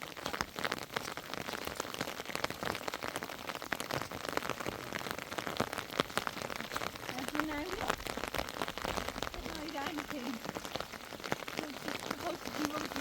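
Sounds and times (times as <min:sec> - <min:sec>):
rain falling: 0:00.0 - 0:13.0
raindrops ticking on a surface: 0:00.0 - 0:13.0.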